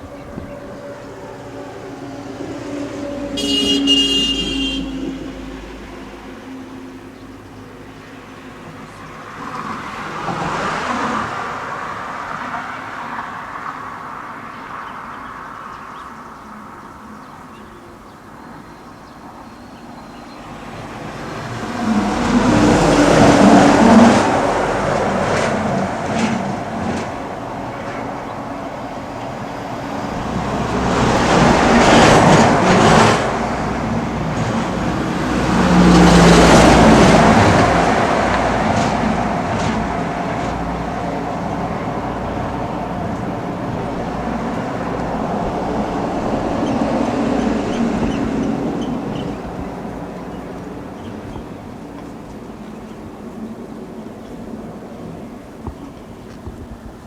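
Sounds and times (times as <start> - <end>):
steady traffic rumble: 0.0 - 57.0
vehicles passing: 0.0 - 57.0.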